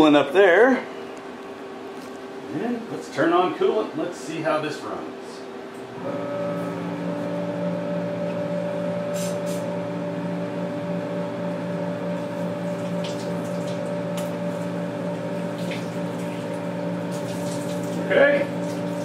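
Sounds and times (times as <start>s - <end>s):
coolant pump humming: 0.0s - 19.0s.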